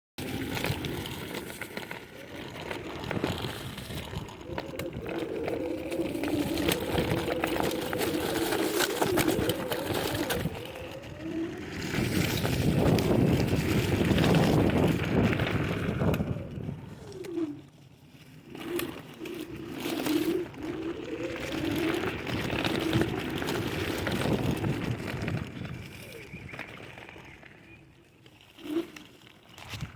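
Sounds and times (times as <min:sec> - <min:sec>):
electric scooter motor whine: 0:00.2 - 0:29.9
wind and tyre noise: 0:00.2 - 0:29.9.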